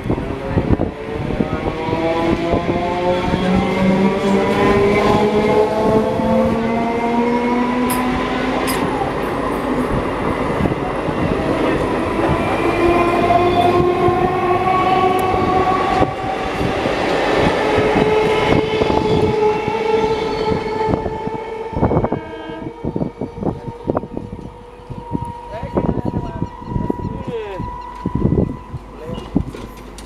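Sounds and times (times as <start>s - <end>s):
wheel rumble and clatter on rails: 0.0s - 22.2s, 22.8s - 30.0s
train traction motors whining: 0.0s - 30.0s.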